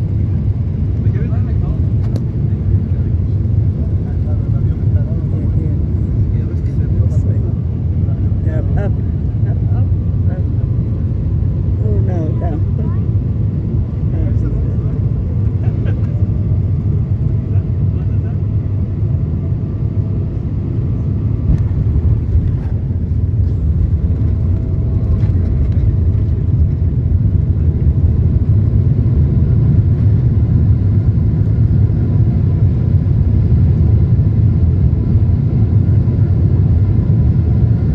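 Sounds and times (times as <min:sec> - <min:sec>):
low rumble of engines and wheels: 0:00.0 - 0:37.9.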